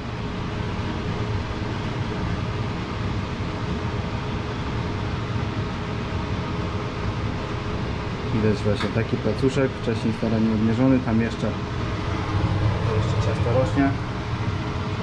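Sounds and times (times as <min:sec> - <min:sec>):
faint constant drone: 0:00.0 - 0:15.0
fan humming and hissing: 0:00.0 - 0:15.0.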